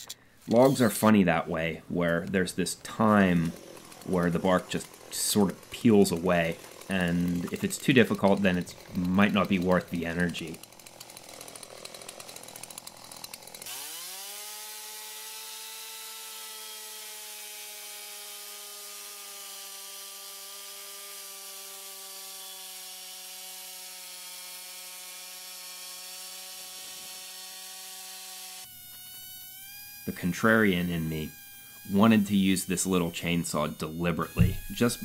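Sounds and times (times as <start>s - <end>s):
chainsaw cutting log: 0.0s - 35.0s.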